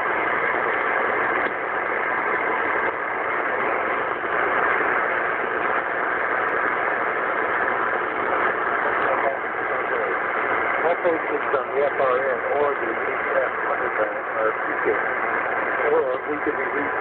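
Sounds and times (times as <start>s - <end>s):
radio static rush: 0.0s - 17.0s.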